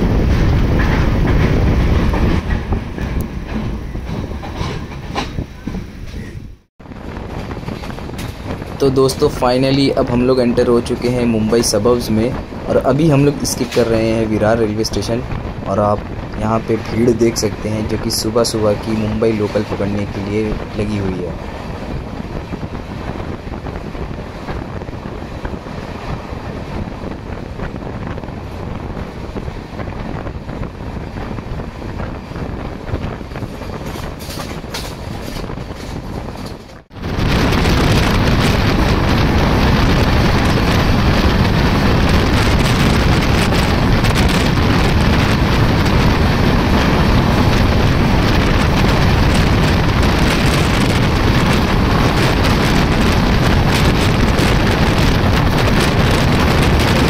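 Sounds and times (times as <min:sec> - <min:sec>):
train rumbling on rails: 0:00.0 - 0:57.0
wind noise on microphone: 0:00.0 - 0:57.0.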